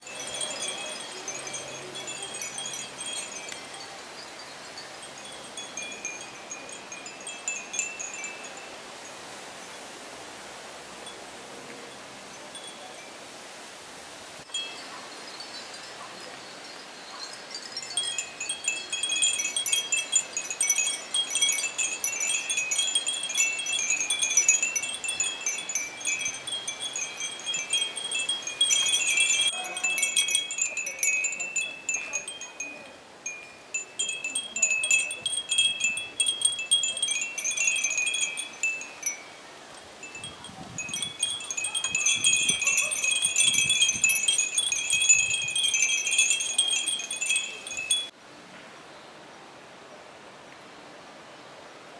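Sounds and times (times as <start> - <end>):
wind chimes ringing: 0.0 - 9.8, 11.9 - 13.2, 14.4 - 48.2.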